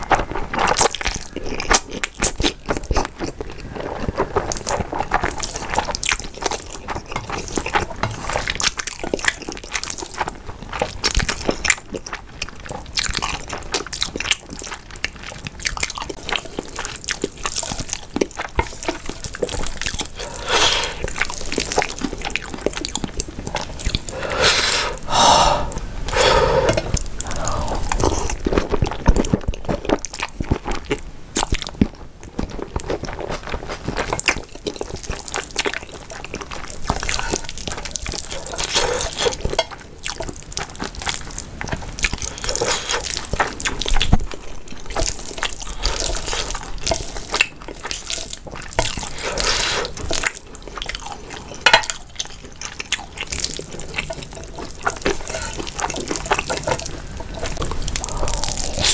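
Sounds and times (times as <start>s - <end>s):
person slurping and chewing noodles: 0.0s - 58.9s.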